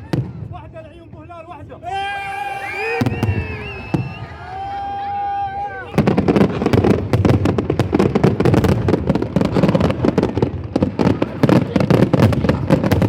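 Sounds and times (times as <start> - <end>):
fireworks banging and crackling: 0.0 - 1.8, 2.7 - 13.0.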